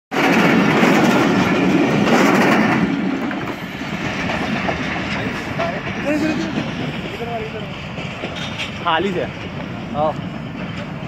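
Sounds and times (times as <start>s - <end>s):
train running on rails: 0.1s - 11.0s.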